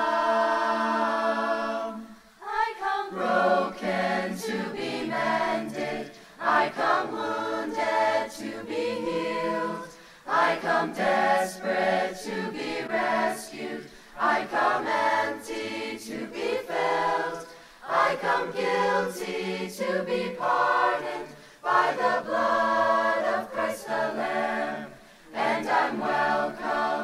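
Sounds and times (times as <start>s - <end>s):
chorus singing a hymn: 0.0s - 27.0s.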